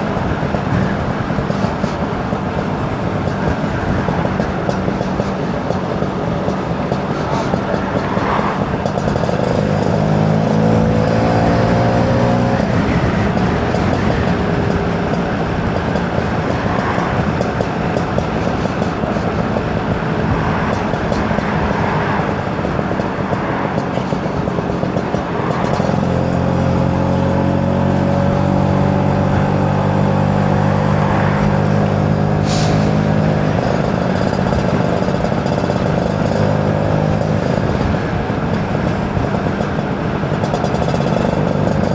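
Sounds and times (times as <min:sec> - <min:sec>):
two-stroke engine running: 0:00.0 - 0:41.9.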